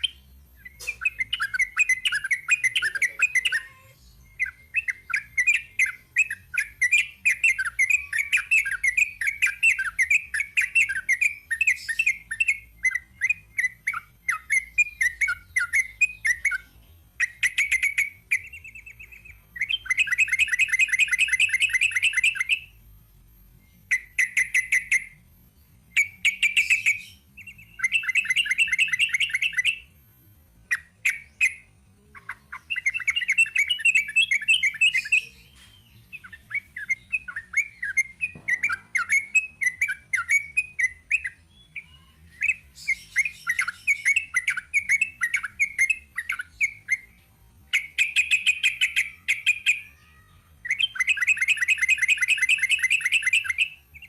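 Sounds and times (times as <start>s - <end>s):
bird singing rapid phrases: 0.0s - 22.8s, 23.7s - 25.2s, 25.9s - 30.0s, 30.6s - 54.0s.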